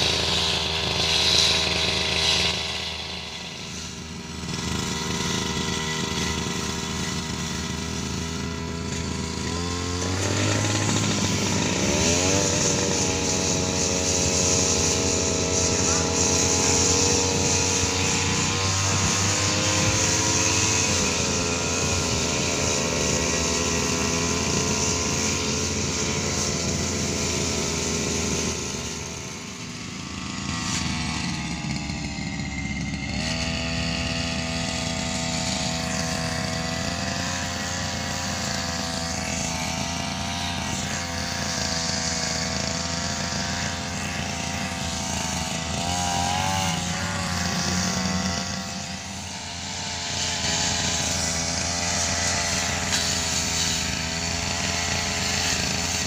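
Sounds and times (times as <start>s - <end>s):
brush cutter engine cutting grass: 0.0s - 56.0s.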